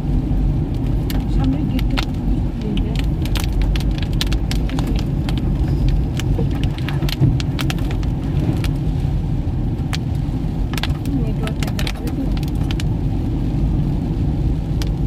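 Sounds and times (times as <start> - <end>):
car engine and tyre rumble: 0.0 - 15.0
raindrops ticking on car: 0.0 - 15.0.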